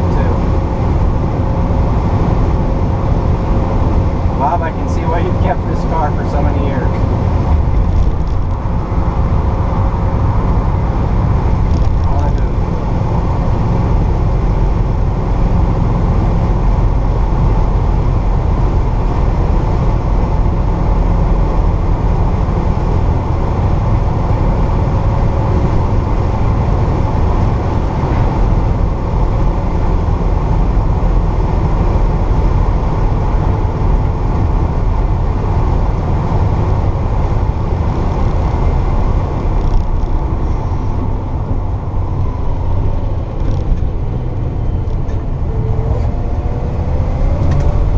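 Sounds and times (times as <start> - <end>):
car engine running: 0.0 - 47.9
road noise: 0.0 - 47.9.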